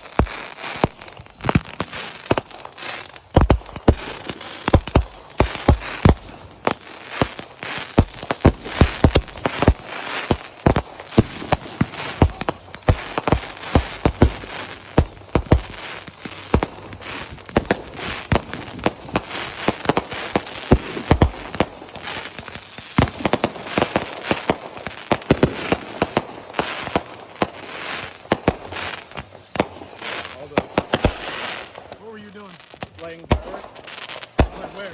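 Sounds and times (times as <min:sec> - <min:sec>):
falling firework whistles: 0:00.0 - 0:34.9
firework bangs: 0:00.0 - 0:34.9.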